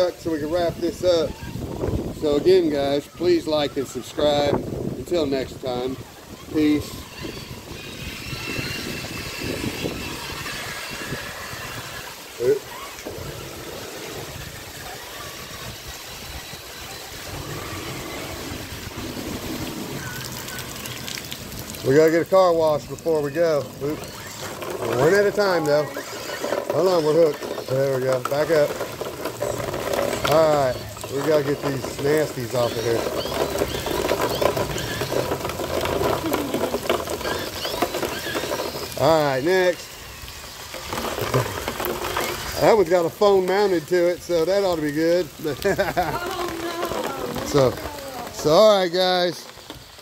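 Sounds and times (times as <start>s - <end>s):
running water and rain hiss: 0.0s - 50.0s
electric motors whining: 5.7s - 50.0s.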